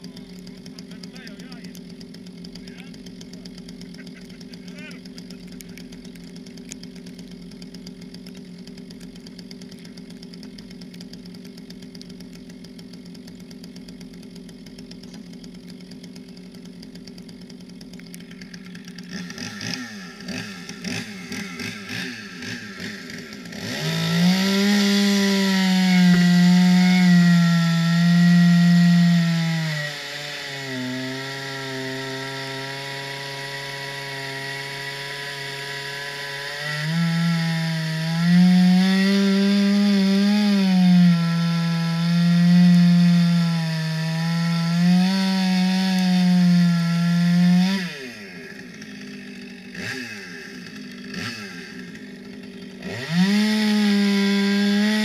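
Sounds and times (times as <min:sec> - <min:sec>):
chainsaw cutting ice: 0:00.0 - 0:55.0
chainsaw engine revving: 0:00.0 - 0:55.0.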